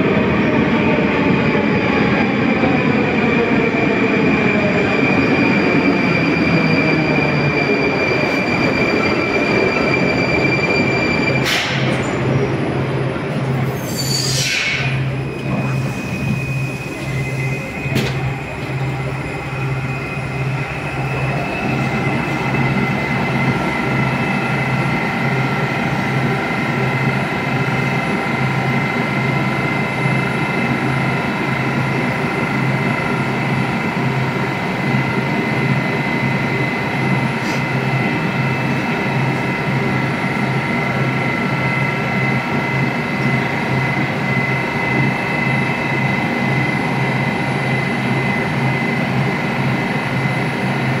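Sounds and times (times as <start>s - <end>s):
train equipment whine and hum: 0.0s - 51.0s.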